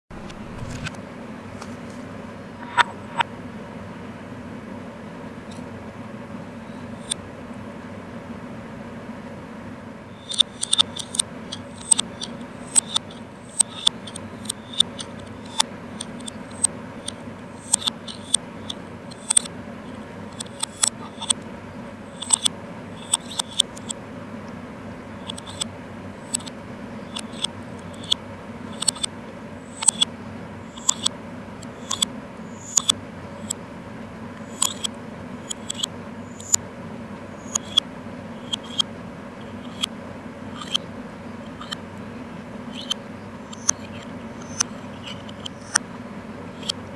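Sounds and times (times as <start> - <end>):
steady low hum: 0.1 - 46.9.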